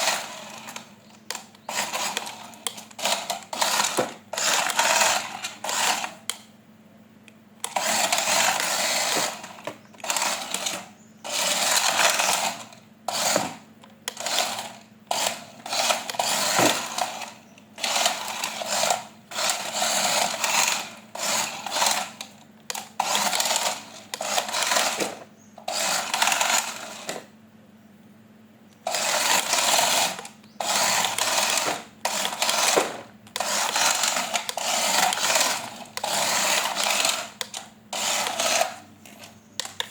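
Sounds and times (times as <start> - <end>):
toy motor and gears whirring: 0.0 - 6.5, 7.6 - 27.3, 28.8 - 39.9.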